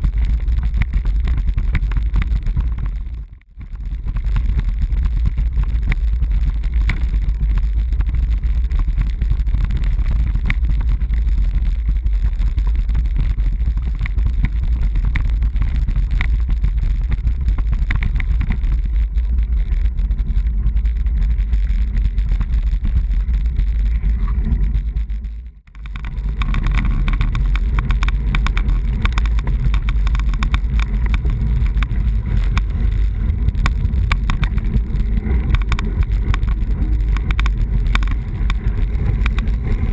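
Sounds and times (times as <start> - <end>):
bike rattling over cobblestones: 0.0 - 39.9
wind rushing over microphone: 0.0 - 39.9.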